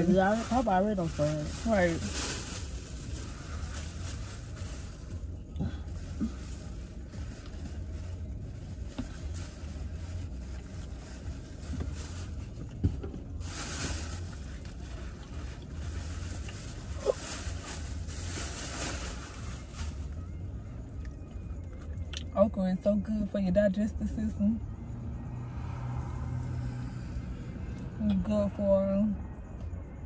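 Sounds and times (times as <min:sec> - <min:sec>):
car cabin hum: 0:00.0 - 0:25.4.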